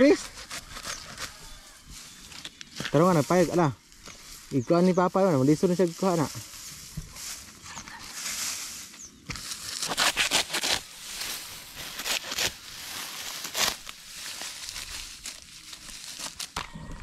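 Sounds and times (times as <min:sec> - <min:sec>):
dry straw rustling and crackling: 0:00.0 - 0:16.8.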